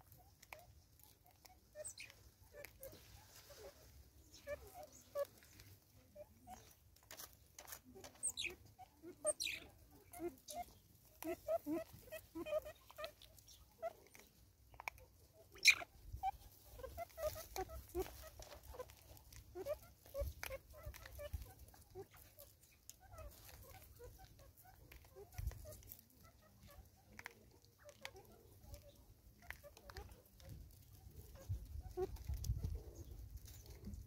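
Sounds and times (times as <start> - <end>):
clucking bird calls: 0.0 - 34.0.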